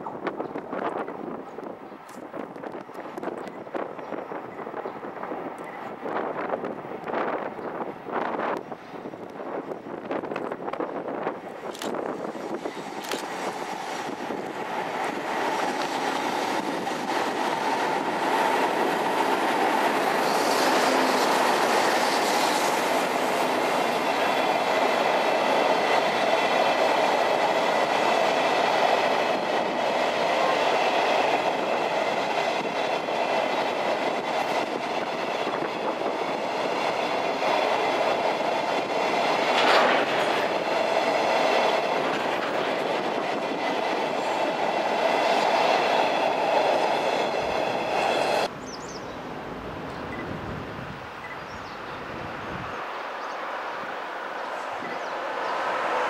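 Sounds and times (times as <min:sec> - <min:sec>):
train wheels on rails: 0:00.0 - 0:48.5.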